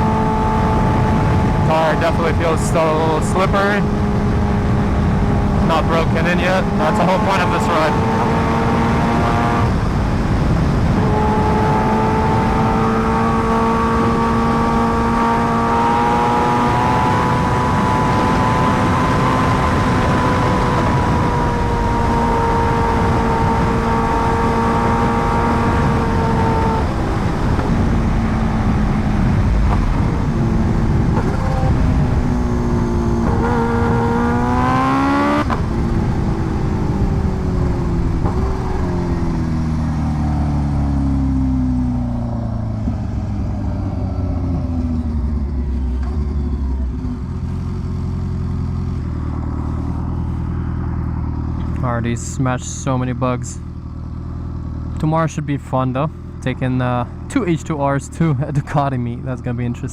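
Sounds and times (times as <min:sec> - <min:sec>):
motorcycle engine accelerating: 0:00.0 - 0:58.9
wind and road noise: 0:00.0 - 0:59.9.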